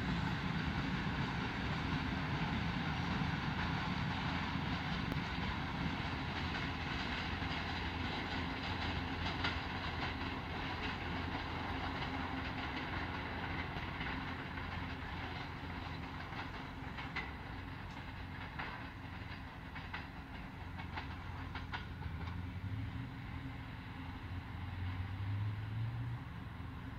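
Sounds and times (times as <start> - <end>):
train wheels clicking over rail joints: 0.0 - 25.1.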